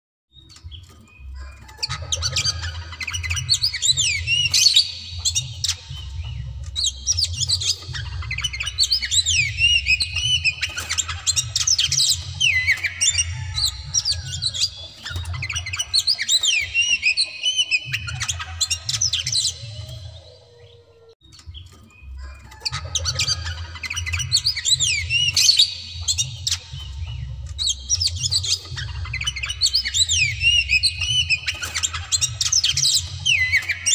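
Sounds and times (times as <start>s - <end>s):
bird singing whistled notes: 0.3s - 33.9s.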